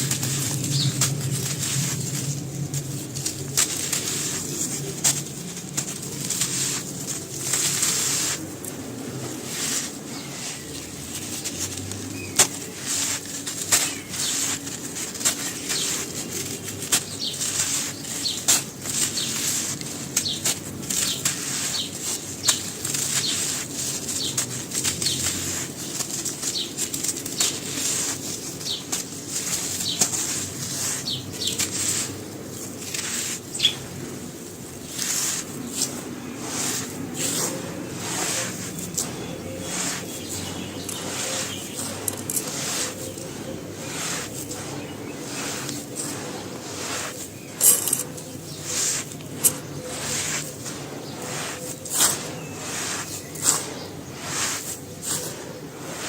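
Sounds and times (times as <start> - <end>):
gritty material crunching: 0.0 - 56.0.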